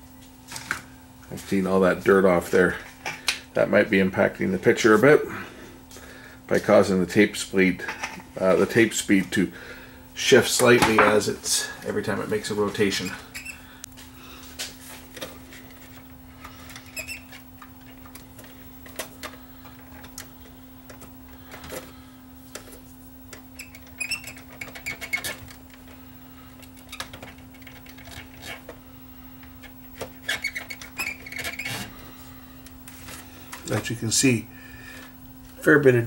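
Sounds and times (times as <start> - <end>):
tape transport humming: 0.5 - 36.0.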